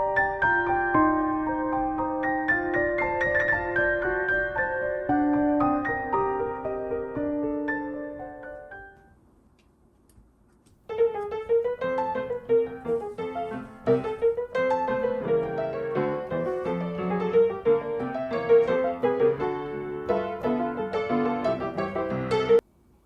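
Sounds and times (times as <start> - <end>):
piano music: 0.0 - 9.1, 10.9 - 22.6.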